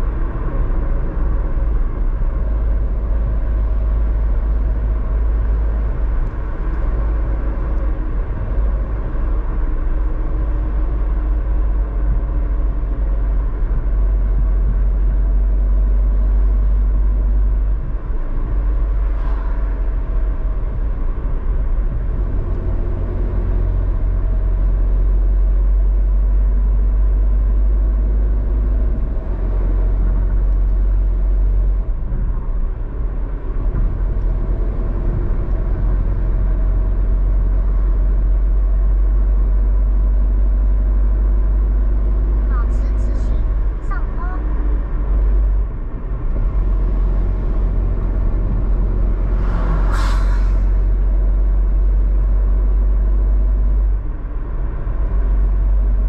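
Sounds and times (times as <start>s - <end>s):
car road and engine rumble: 0.0s - 56.0s
faint engine hum: 0.0s - 56.0s.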